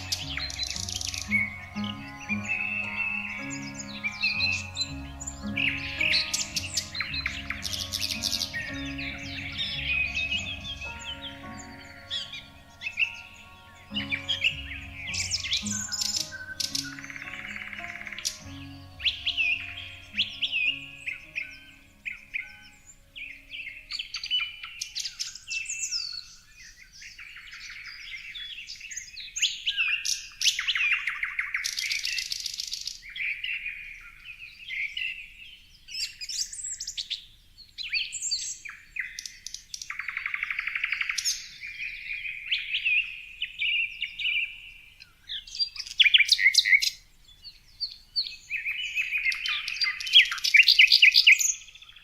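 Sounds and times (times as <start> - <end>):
songbirds singing: 0.0 - 52.0.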